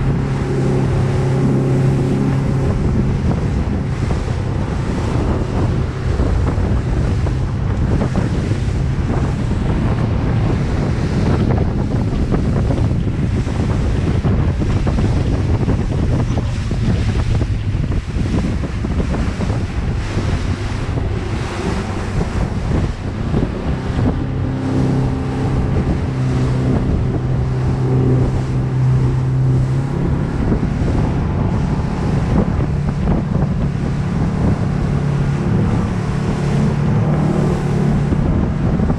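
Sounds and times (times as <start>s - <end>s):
boat engine drone: 0.0s - 38.9s
hull rushing through water: 0.0s - 38.9s
wind buffeting microphone: 0.0s - 38.9s.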